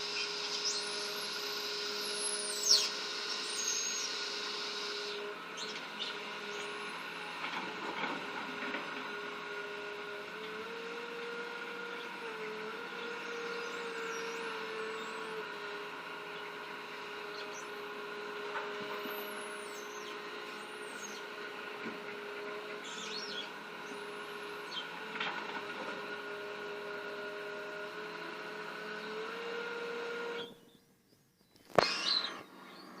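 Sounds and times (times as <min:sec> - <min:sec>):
excavator engine running: 0:00.0 - 0:30.7.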